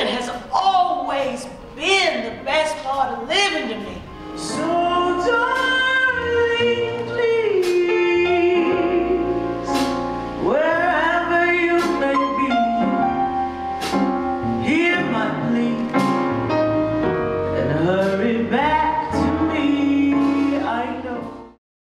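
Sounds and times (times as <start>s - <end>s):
piano accompaniment: 0.0s - 21.6s
woman singing jazz ballad: 1.8s - 13.6s, 14.4s - 21.6s.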